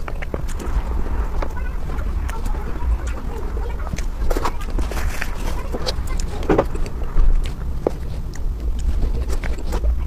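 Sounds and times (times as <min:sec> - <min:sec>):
low rumble: 0:00.0 - 0:10.0
wet chewing and lip-smacking: 0:00.0 - 0:10.0.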